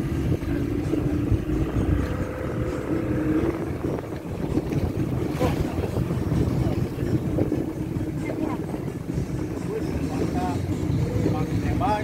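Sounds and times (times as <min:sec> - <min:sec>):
boat engine humming: 0:00.0 - 0:12.0
water rushing: 0:00.0 - 0:12.0
wind buffeting microphone: 0:00.0 - 0:12.0.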